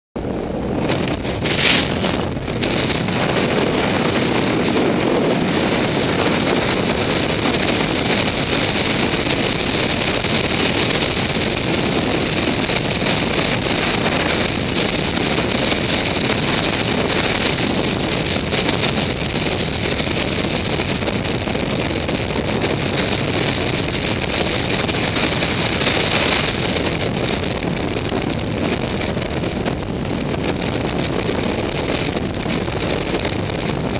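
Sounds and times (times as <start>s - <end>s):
freefall wind buffeting microphone: 0.2s - 33.9s.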